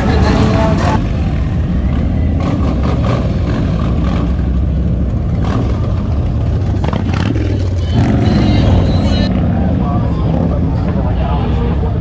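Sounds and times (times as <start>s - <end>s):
motorcycles riding slowly past: 0.0s - 12.0s.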